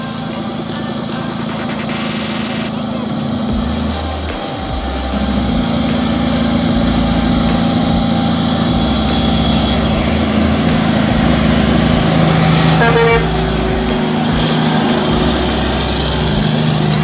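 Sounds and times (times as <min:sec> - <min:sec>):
diesel truck engine passing: 0:00.0 - 0:17.0
truck horn toot: 0:00.0 - 0:17.0.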